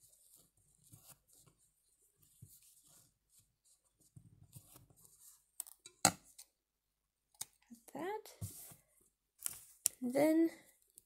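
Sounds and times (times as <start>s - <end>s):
rustling of thread and felt: 0.0s - 6.4s, 7.7s - 11.0s.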